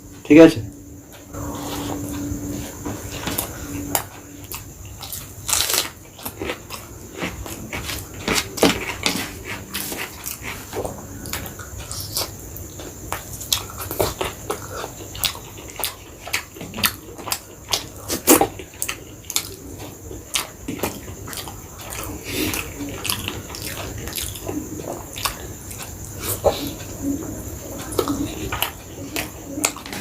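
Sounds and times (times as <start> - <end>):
chewing with wet mouth clicks: 3.4 - 30.0.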